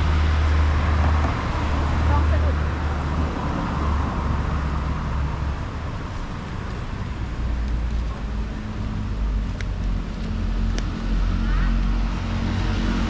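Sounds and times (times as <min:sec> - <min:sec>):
engine hum: 0:00.0 - 0:13.0
traffic rumble: 0:00.0 - 0:13.0.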